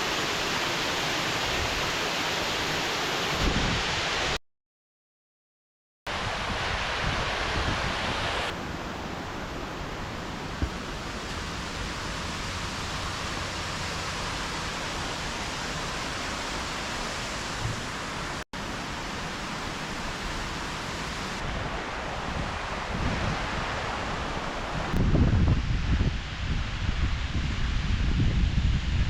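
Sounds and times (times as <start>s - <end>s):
water rushing down waterfall: 0.0s - 4.4s, 6.1s - 28.1s.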